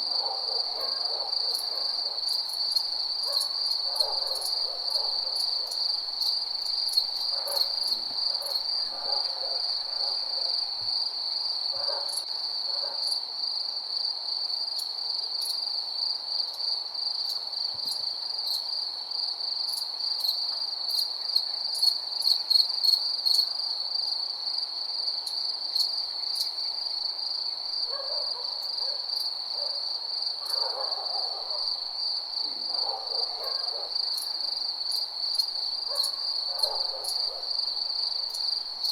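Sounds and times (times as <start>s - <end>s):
crickets chirring: 0.0s - 38.9s
faint lower insect calls: 0.0s - 38.9s.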